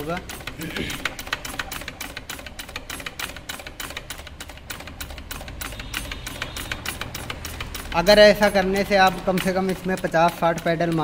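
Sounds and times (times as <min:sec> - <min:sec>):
rapid mechanical ticking: 0:00.0 - 0:11.0.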